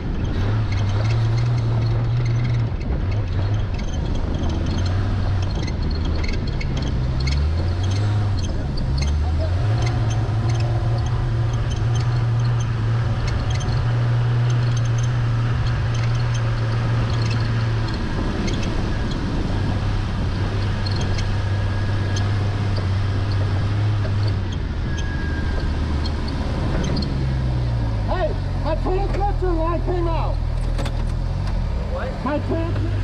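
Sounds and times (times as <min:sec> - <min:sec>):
car engine at low revs: 0:00.0 - 0:33.0.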